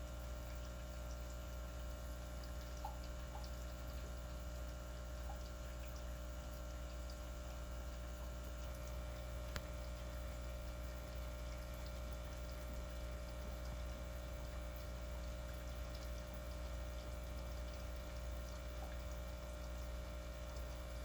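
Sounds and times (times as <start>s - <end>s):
aquarium water bubbling: 0.0s - 21.0s.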